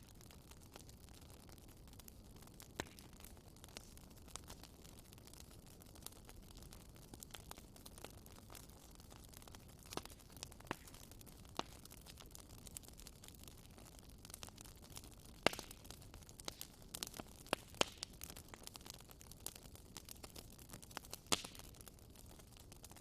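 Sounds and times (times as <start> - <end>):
wood crackling and popping: 0.0 - 23.0.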